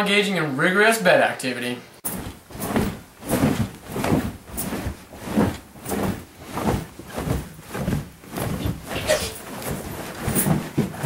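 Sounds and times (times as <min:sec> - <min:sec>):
bed creaking rhythmically: 0:02.0 - 0:11.0.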